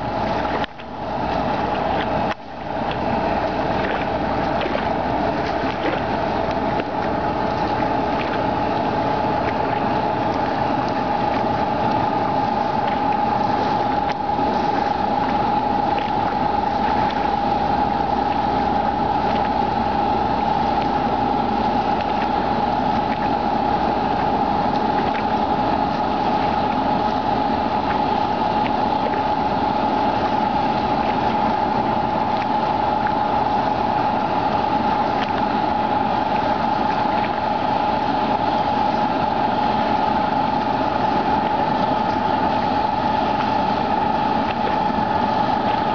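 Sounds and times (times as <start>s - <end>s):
boat engines running: 0.0s - 45.9s
constant engine whine: 0.0s - 45.9s.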